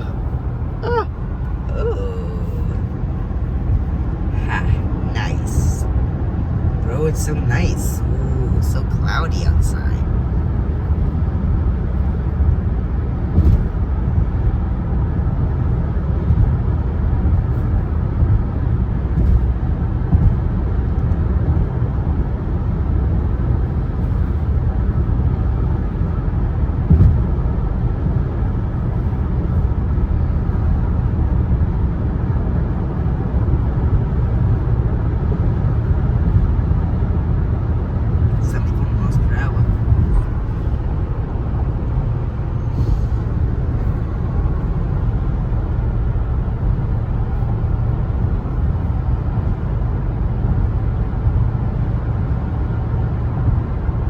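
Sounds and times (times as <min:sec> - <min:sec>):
vehicle rumble from inside cabin: 0:00.0 - 0:54.0.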